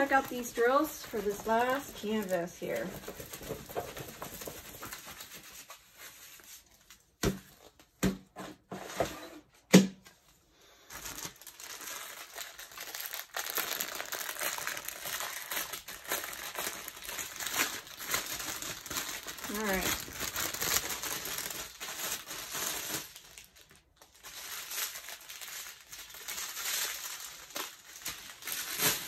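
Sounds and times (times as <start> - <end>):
plastic packaging crinkling: 0.0 - 7.8, 10.9 - 29.0.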